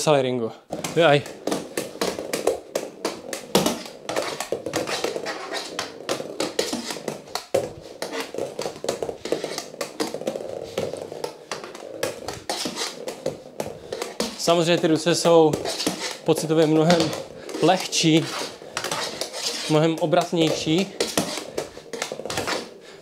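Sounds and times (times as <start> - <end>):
stick tapping wooden floor: 0.7 - 22.8.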